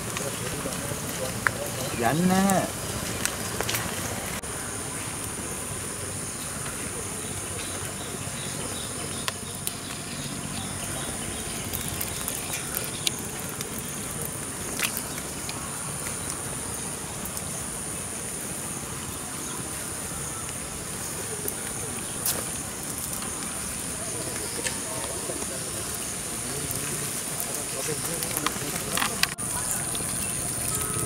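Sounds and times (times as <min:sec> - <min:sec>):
outdoor hiss: 0:00.0 - 0:31.0
high-pitched insect chorus: 0:04.5 - 0:31.0.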